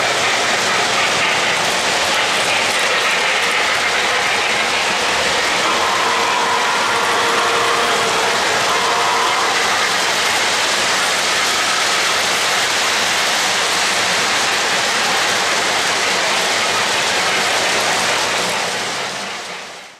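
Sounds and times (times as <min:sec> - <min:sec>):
model train wheels and motors whirring: 0:00.0 - 0:19.9.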